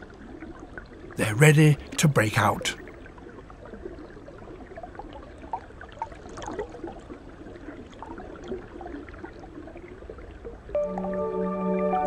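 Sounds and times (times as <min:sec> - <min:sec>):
water gurgling and trickling: 0:00.0 - 0:11.9.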